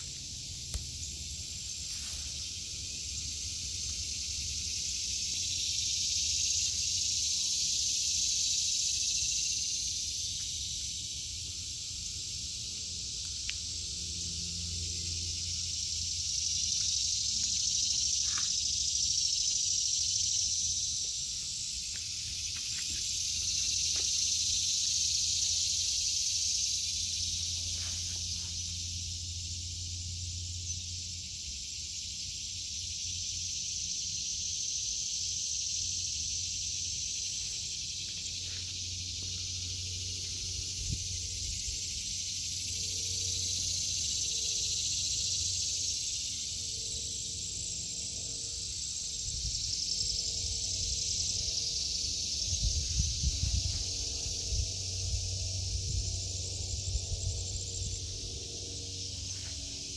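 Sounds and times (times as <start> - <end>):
cicadas buzzing: 0.0 - 59.9.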